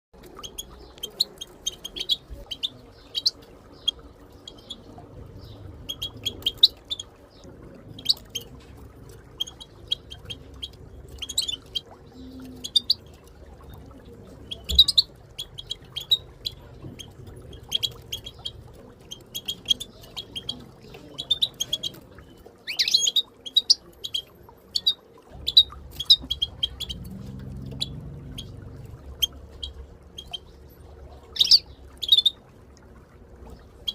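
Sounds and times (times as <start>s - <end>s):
bird chirping: 0.3s - 8.6s, 9.3s - 13.2s, 14.4s - 32.4s.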